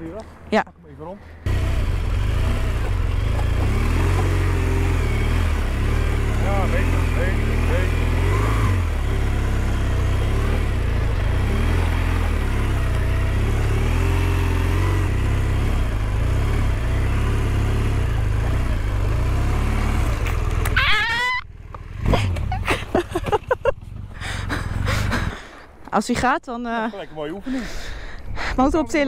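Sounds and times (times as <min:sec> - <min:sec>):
motorcycle engine running: 0:01.4 - 0:25.6.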